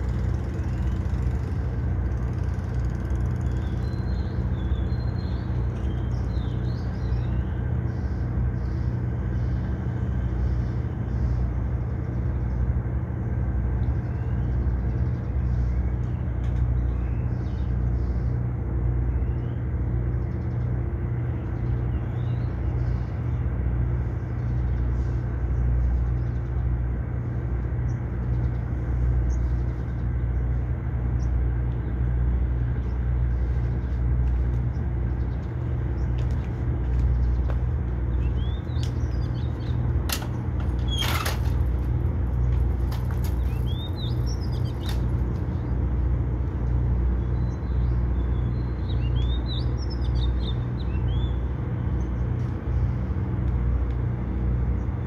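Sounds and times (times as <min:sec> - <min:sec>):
small birds chirping: 0:00.0 - 0:12.8, 0:13.8 - 0:41.7, 0:42.4 - 0:55.0
steady low rumble: 0:00.0 - 0:55.0.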